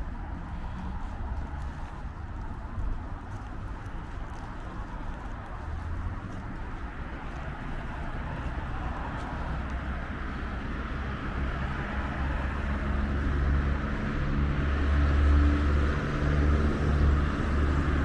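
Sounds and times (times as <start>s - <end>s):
tyres hissing on road: 0.0s - 18.0s
vehicle low engine drone: 0.0s - 18.0s.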